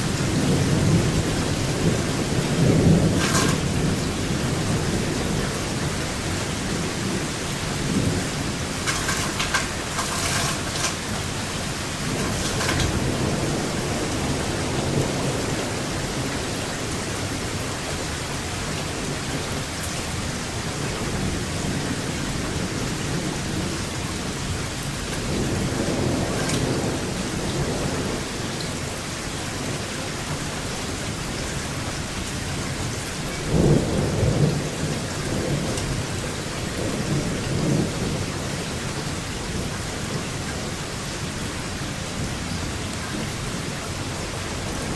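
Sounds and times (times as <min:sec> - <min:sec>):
thunder rumbling: 0:00.0 - 0:29.0, 0:32.8 - 0:44.9
steady rain falling: 0:00.0 - 0:44.9.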